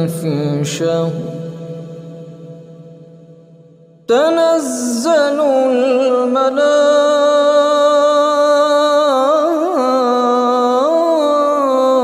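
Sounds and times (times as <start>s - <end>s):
person chanting melodically: 0.0s - 12.0s.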